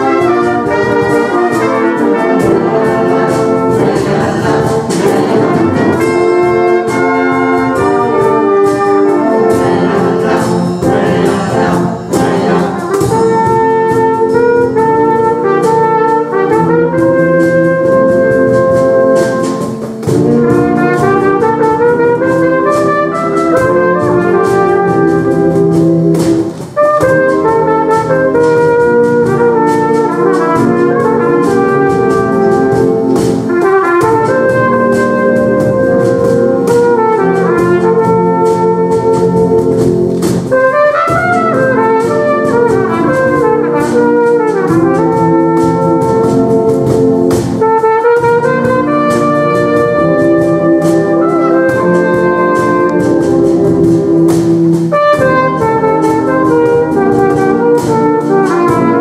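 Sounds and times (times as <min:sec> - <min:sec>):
concert wind band playing: 0:00.0 - 0:59.0.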